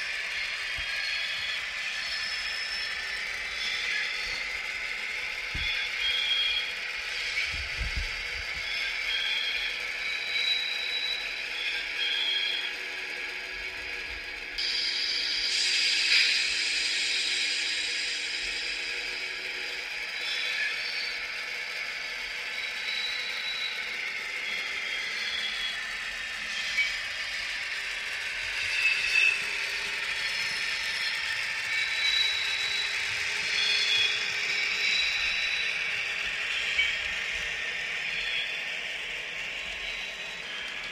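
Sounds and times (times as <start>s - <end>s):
high motor whine: 0.0s - 40.9s
model train mechanical rattle: 0.0s - 40.9s.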